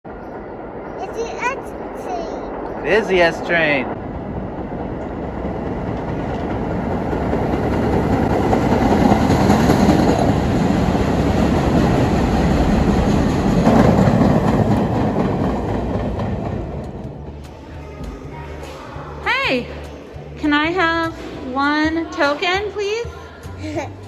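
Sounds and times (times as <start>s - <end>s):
subway train rumbling on rails: 0.0s - 24.0s.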